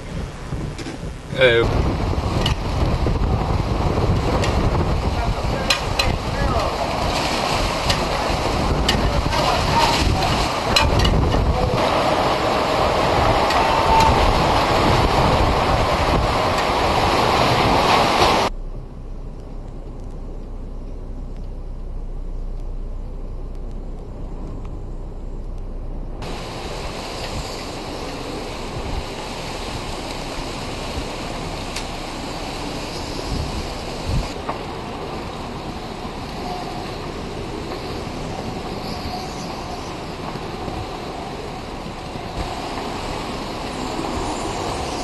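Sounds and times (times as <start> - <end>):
strong wind on microphone: 0.0 - 18.6, 26.2 - 45.0
dull low rumble: 0.0 - 45.0.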